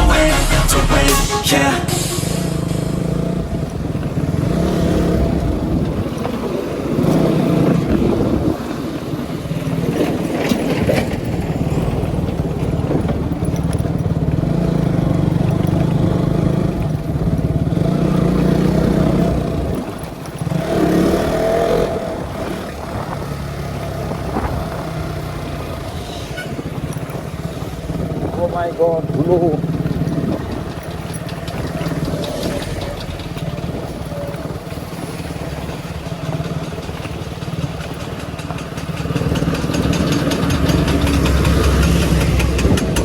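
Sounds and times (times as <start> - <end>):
motorcycle engine running: 2.6 - 25.9, 26.6 - 43.0.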